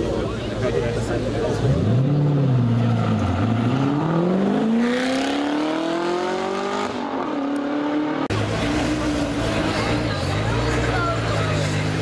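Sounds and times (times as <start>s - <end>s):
car engine accelerating hard: 1.4s - 12.0s.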